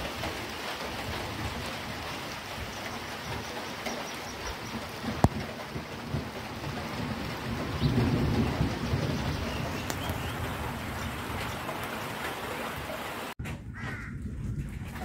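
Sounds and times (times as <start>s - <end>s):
heavy rain pouring: 0.0s - 13.4s.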